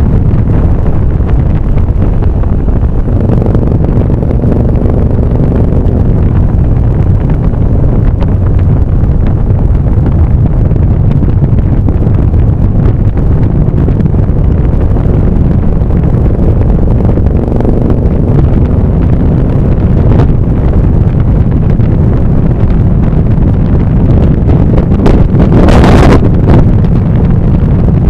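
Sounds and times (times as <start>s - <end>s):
vehicle engine drone: 0.0s - 28.0s
wind buffeting microphone: 0.0s - 28.0s.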